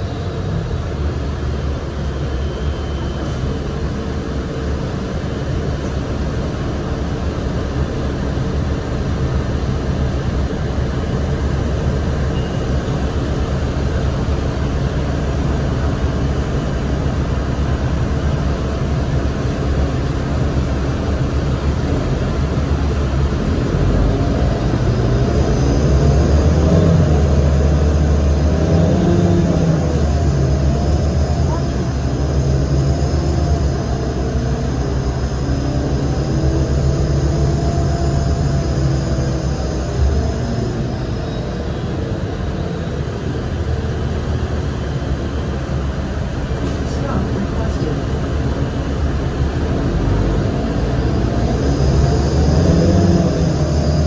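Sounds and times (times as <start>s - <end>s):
bus engine rumble: 0.0s - 54.0s
road and tyre noise: 0.0s - 54.0s.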